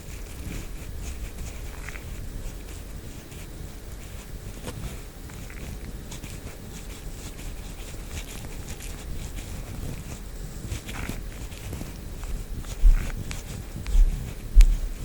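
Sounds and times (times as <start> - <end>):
earpick scraping inside ear: 0.0 - 15.0.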